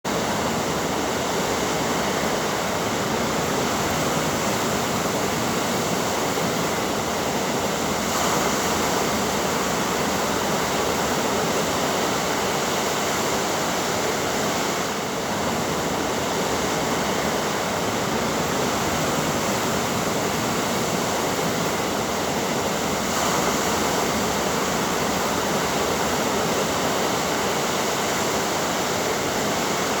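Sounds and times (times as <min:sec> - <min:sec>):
ocean waves breaking: 0:00.1 - 0:30.0.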